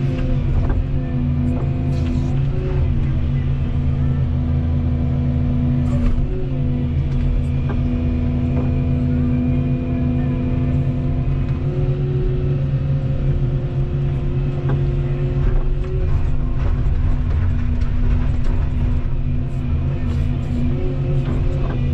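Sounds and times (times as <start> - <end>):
excavator diesel hum: 0.0 - 21.9.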